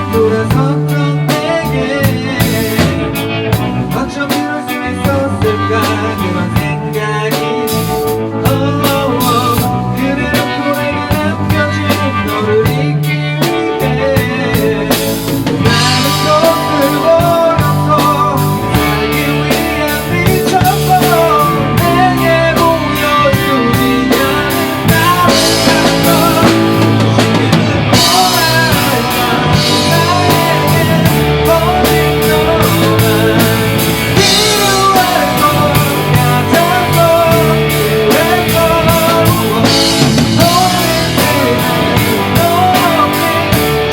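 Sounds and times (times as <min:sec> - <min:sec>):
bass guitar: 0:00.0 - 0:43.9
drum kit beat: 0:00.0 - 0:43.9
electric guitar: 0:00.0 - 0:43.9.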